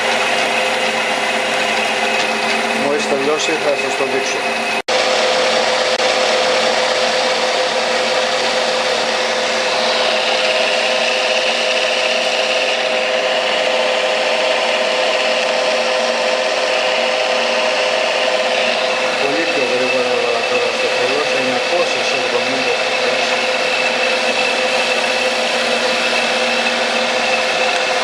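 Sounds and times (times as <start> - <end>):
metal lathe cutting: 0.0 - 28.0.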